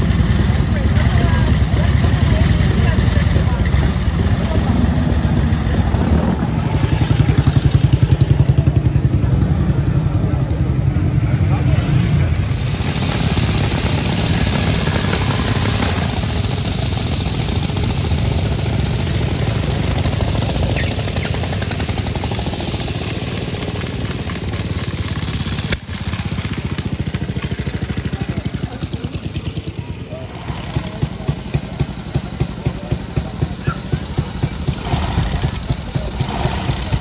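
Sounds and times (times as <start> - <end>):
motorcycle engines running at low revs: 0.0 - 37.0.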